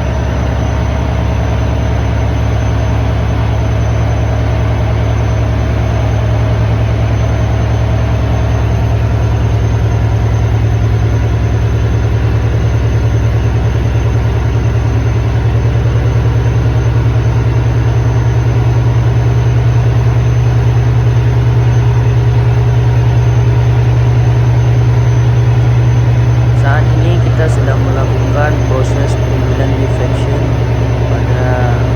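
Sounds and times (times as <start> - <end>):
ship diesel engine droning: 0.0 - 31.9.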